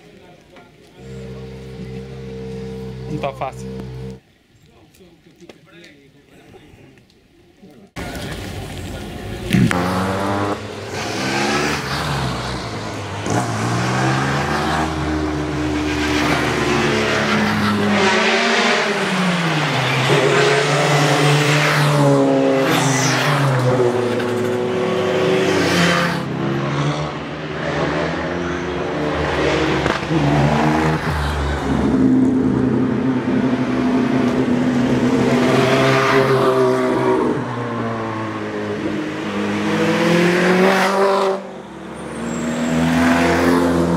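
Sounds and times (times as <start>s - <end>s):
race car engine revving: 1.0s - 4.2s, 9.5s - 43.9s.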